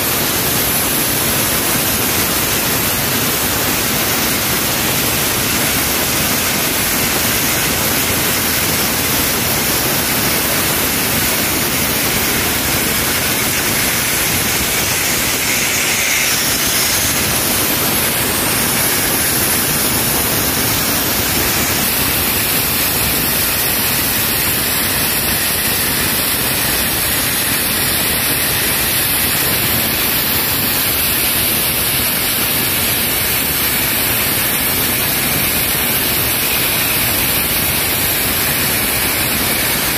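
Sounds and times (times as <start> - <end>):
sandblaster hissing: 0.0 - 39.9.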